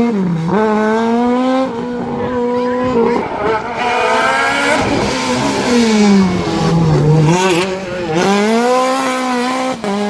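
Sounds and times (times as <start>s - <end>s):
race car engine revving: 0.0s - 10.0s.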